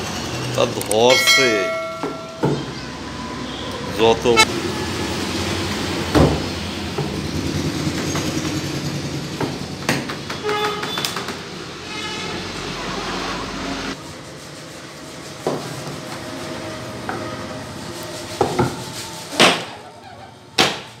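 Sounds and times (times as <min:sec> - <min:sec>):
woodworking machine noise: 0:00.0 - 0:21.0.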